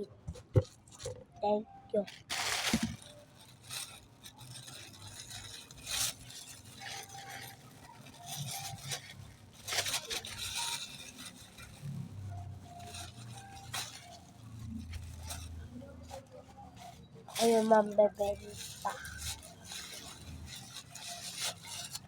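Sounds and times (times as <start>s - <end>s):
packaging scraping and rustling: 0.3s - 1.3s, 2.1s - 22.0s.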